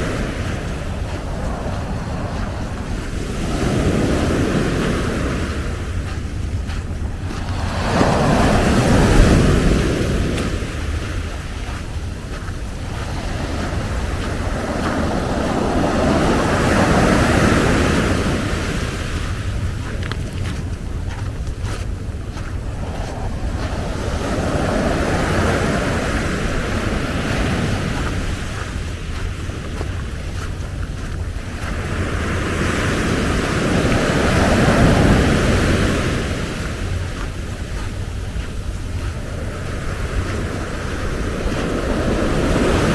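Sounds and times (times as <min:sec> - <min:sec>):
ocean waves breaking: 0:00.0 - 0:42.9
wind rumble on microphone: 0:00.0 - 0:42.9.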